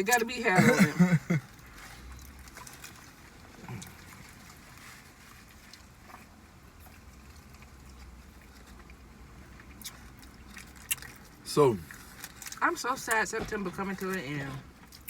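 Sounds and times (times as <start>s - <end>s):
low steady hum: 0.0s - 15.0s
quiet chewing with smacks: 1.4s - 15.0s.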